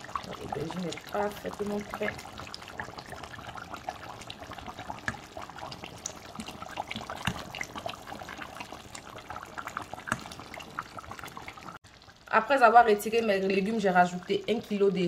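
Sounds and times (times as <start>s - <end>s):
sauce bubbling in a pot: 0.0s - 15.0s.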